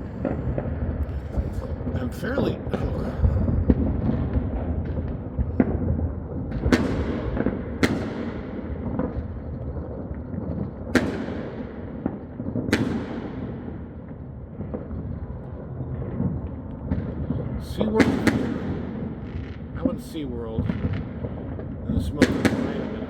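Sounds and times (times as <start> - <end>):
distant fireworks rumble: 0.0 - 23.0
fireworks loud bangs: 0.0 - 23.0
small firework pops: 3.3 - 19.7, 20.6 - 23.0.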